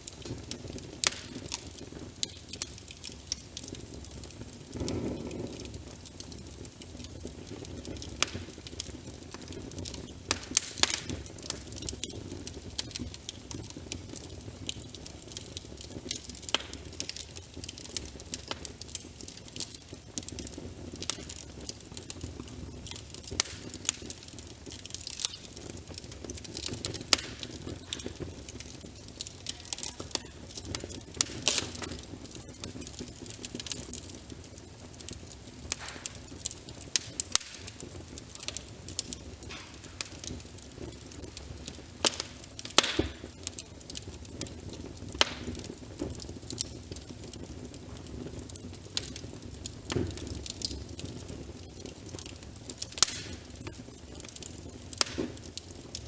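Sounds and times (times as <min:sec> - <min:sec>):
rain pattering: 0:00.0 - 0:56.0
wood fire crackling and popping: 0:00.0 - 0:56.0.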